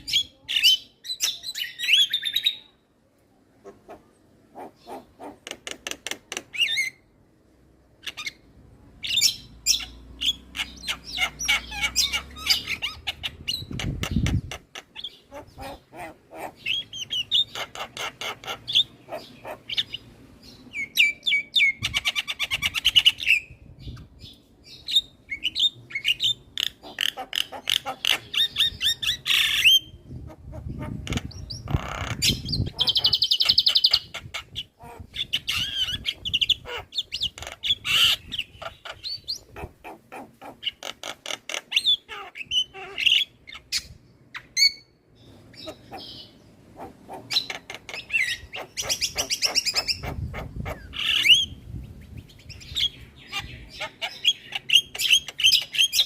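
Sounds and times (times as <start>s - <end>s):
bird singing and chattering: 0.0s - 2.7s, 4.6s - 7.1s, 8.0s - 39.7s, 40.5s - 56.0s.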